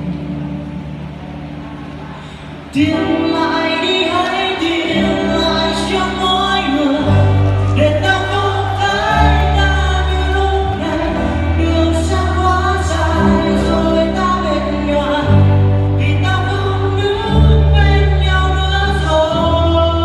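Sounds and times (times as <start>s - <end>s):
bass line: 0.0s - 20.0s
electric guitar: 0.0s - 20.0s
sung lead vocals: 0.0s - 20.0s.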